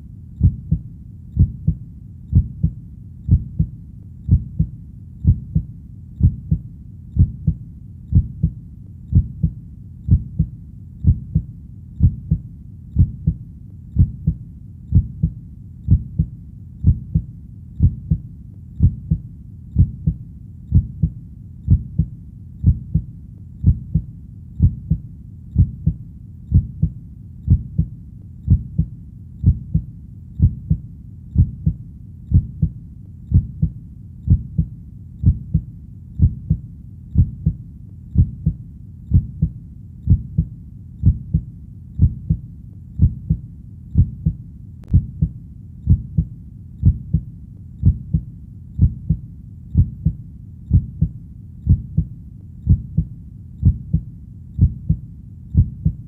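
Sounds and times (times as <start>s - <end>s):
heartbeat thumping: 0.4s - 12.4s, 13.0s - 13.4s, 14.0s - 30.8s, 31.4s - 36.6s, 37.2s - 56.0s.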